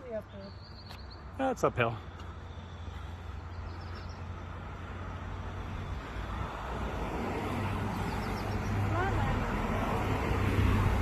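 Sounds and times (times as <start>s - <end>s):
vehicle engine and tyres approaching: 0.0s - 11.0s.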